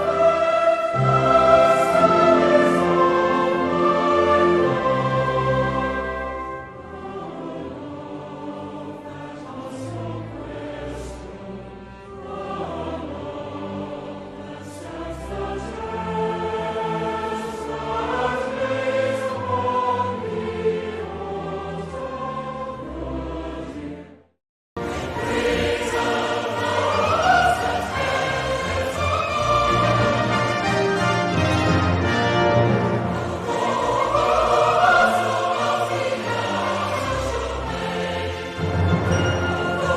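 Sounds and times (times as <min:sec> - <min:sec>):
orchestral piece: 0:00.0 - 0:24.0, 0:24.8 - 0:39.9
choir singing with an orchestra: 0:00.0 - 0:39.9.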